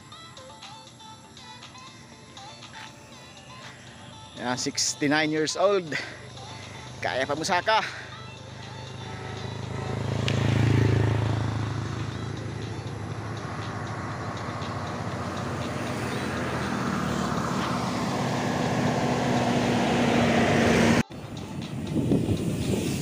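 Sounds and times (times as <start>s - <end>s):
road noise: 0.0s - 23.0s
vehicle engine: 2.4s - 23.0s.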